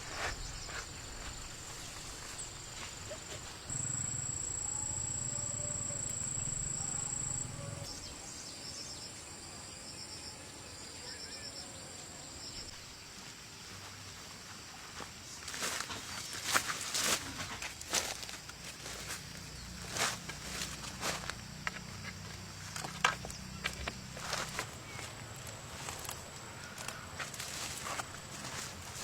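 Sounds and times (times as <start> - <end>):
insects trilling: 0.0 - 13.6, 14.9 - 29.0.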